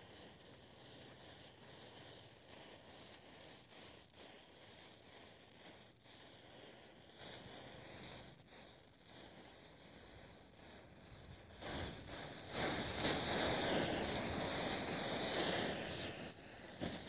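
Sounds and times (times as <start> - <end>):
matchsticks flaring with crackle: 0.1 - 17.0.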